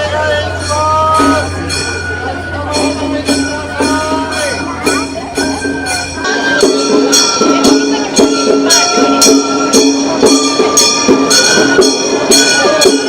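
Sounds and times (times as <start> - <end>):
bamboo flute melody: 0.0 - 13.0.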